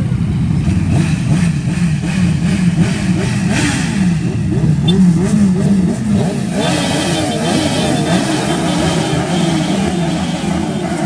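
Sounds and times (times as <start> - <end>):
car engine revving: 0.5 - 11.0.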